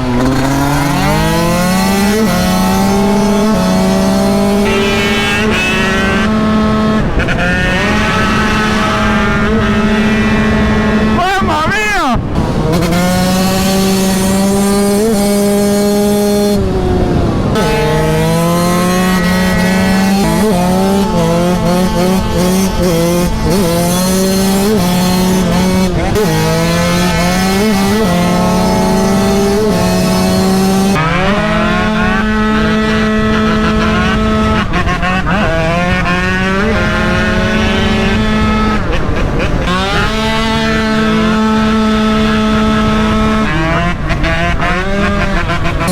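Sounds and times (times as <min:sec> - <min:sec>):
two-stroke engine revving: 0:00.0 - 0:45.9.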